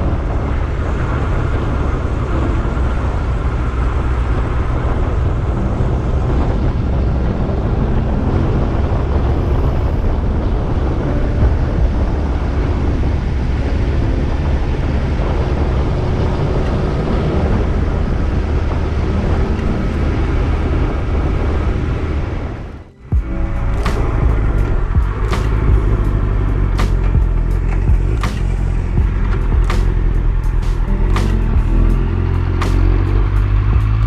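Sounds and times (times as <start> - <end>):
loud wind and road noise: 0.0 - 34.0.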